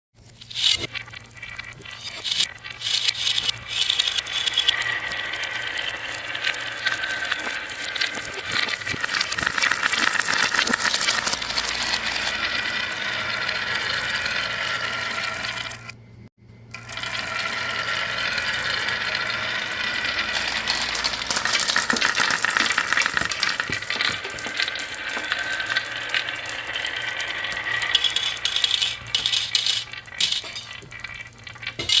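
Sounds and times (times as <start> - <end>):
marbles rattling down track: 0.3 - 16.0, 16.7 - 32.0.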